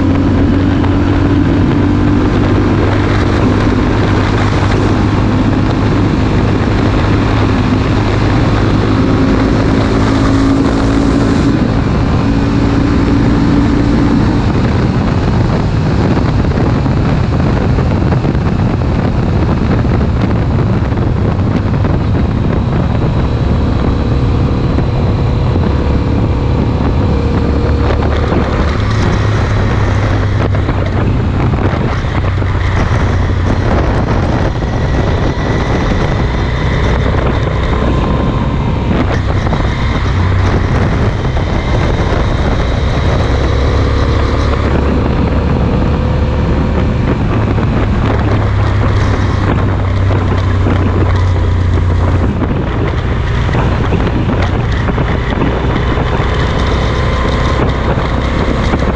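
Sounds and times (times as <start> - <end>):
motorcycle engine droning: 0.0 - 58.9
wind rushing over microphone: 0.0 - 58.9.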